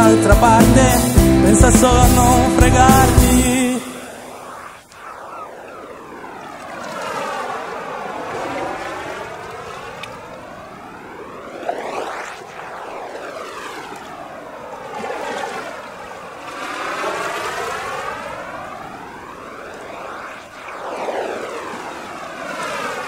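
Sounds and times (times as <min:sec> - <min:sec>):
jet-like flanging whoosh: 0:03.4 - 0:23.0.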